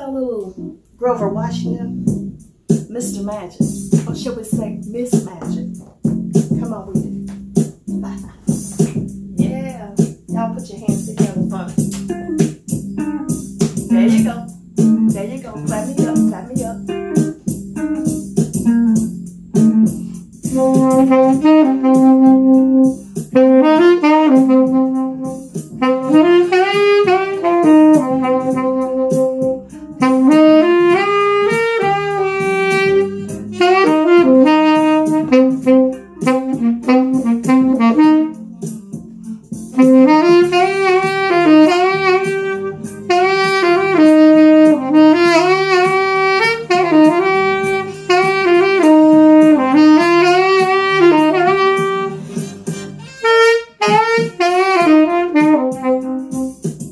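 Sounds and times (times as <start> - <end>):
tenor saxophone melody: 7.8 - 56.9.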